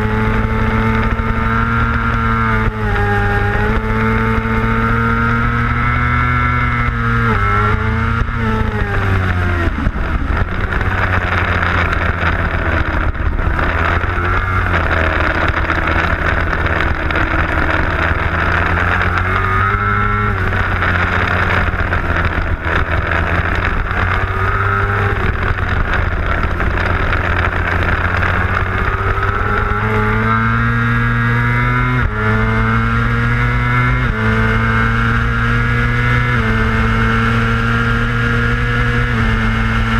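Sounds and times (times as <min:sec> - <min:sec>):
racing motorcycle engine: 0:00.0 - 0:39.9.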